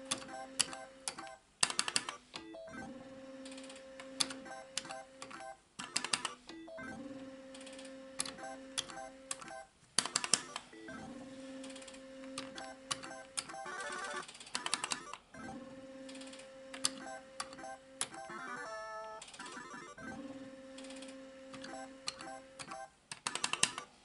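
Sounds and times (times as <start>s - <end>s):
slot machine clicks and beeps: 0.1s - 7.0s, 7.6s - 23.9s.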